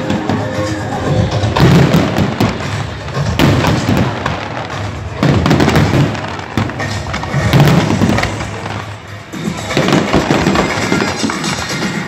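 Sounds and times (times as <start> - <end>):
fireworks booms: 0.0 - 11.8
fireworks crackling and popping: 0.0 - 12.0.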